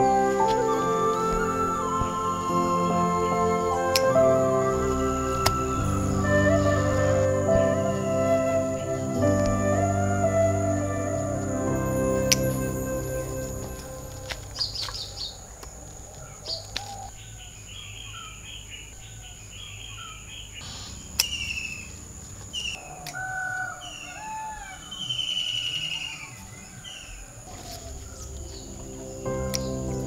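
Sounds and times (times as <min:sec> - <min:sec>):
birds chirping and whistling: 0:00.0 - 0:15.4, 0:19.6 - 0:30.0
insects buzzing: 0:00.0 - 0:18.8, 0:19.6 - 0:30.0.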